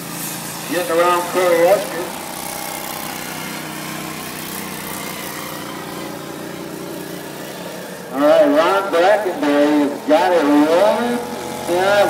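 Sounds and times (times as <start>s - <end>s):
lawn mower engines racing: 0.0s - 12.0s.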